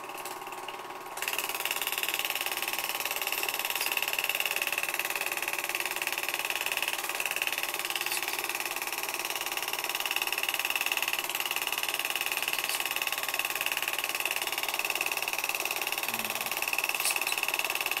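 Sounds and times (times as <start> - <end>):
film projector whirring: 0.0 - 18.0.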